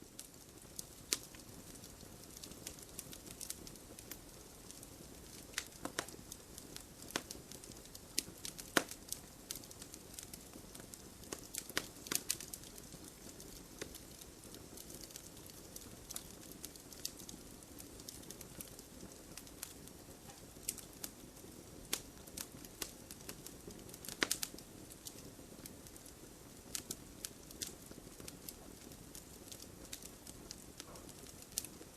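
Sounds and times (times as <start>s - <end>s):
soft steady hiss: 0.0s - 31.9s
wood crackling in a stove: 0.0s - 31.9s.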